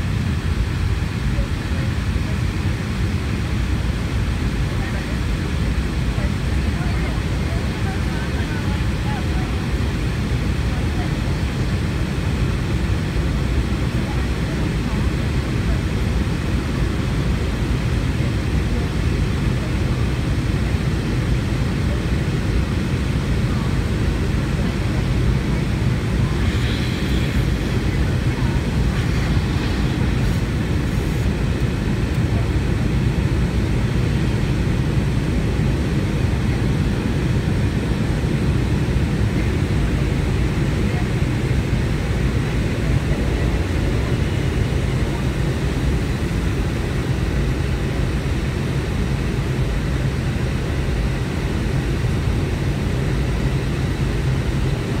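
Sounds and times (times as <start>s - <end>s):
jet engine drone: 0.0s - 55.0s
rush of airflow: 0.0s - 55.0s.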